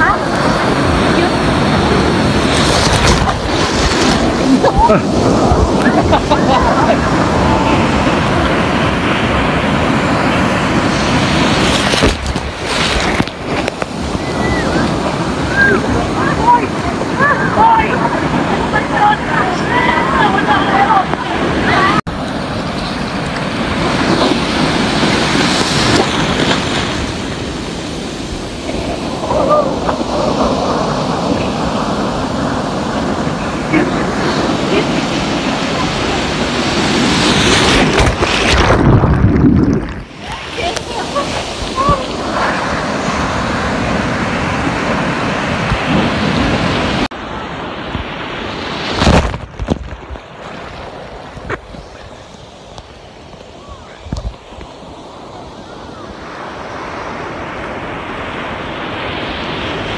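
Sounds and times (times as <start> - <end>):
surf breaking: 0.0 - 59.9.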